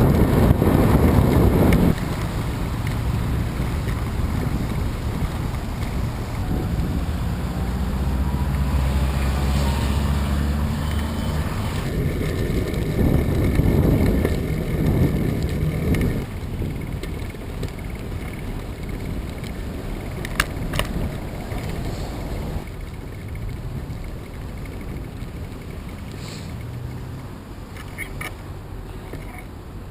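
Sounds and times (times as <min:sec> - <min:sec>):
wind buffeting microphone: 0:00.0 - 0:28.8
low traffic rumble: 0:00.0 - 0:29.9.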